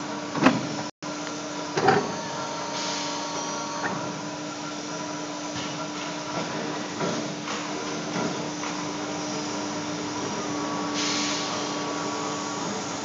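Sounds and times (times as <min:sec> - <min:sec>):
tube bending machine humming: 0:00.0 - 0:13.0.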